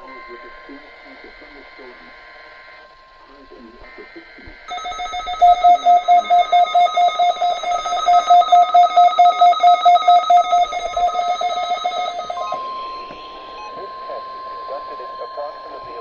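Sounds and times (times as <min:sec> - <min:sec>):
rapidly pulsing electronic beeps: 0:00.0 - 0:16.0
steady alarm tone: 0:00.0 - 0:16.0.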